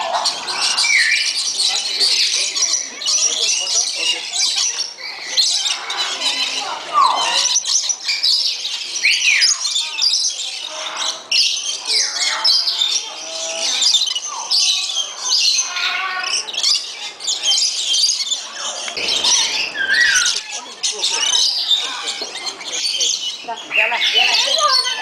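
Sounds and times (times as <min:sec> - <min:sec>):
birds chirping: 0:00.0 - 0:25.0
birds squawking: 0:00.0 - 0:25.0.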